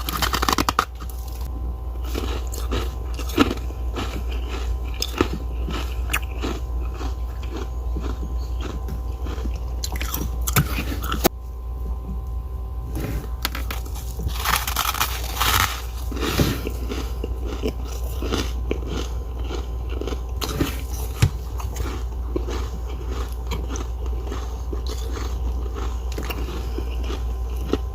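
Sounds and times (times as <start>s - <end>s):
frost being chewed: 0.0s - 11.3s, 13.0s - 27.9s
steady low hum: 0.0s - 27.9s.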